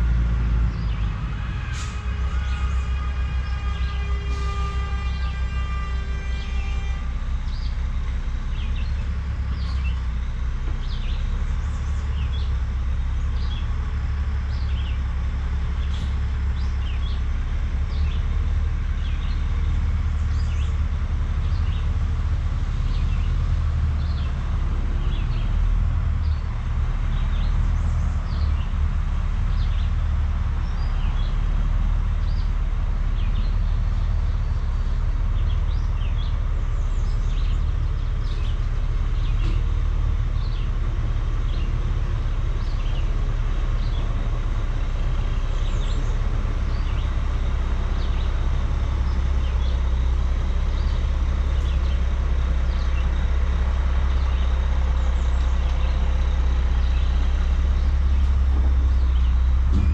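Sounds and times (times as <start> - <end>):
diesel truck engine rumble: 0.0 - 59.9
songbirds chirping: 0.0 - 59.9.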